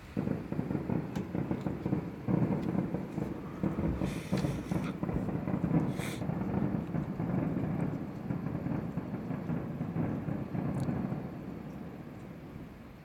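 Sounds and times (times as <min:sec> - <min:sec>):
firework crackling bursts: 0:00.0 - 0:13.0
rumble of firework booms: 0:00.0 - 0:13.0.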